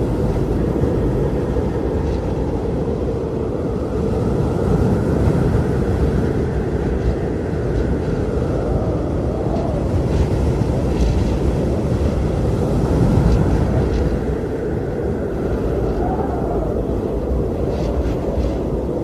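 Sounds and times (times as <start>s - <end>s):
strong blizzard wind: 0.0s - 19.0s.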